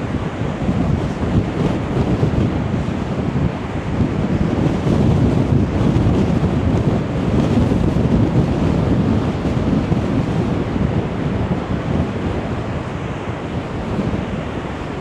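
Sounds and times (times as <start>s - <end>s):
gusty wind buffeting microphone: 0.0s - 15.0s
rough sea surging against wall: 0.0s - 15.0s.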